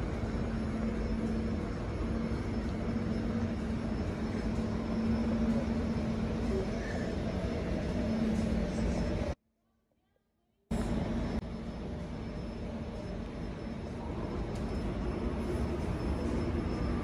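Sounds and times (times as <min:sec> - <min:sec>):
railcar equipment hum: 0:00.0 - 0:09.4, 0:10.7 - 0:17.0.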